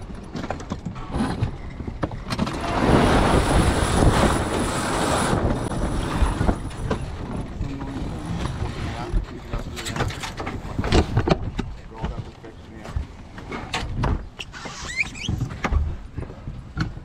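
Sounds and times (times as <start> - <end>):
sails flogging: 0.0 - 17.0.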